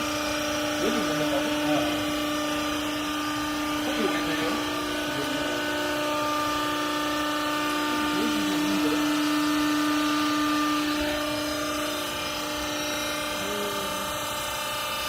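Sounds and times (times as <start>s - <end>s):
hydraulic motor and pump humming: 0.0s - 15.0s.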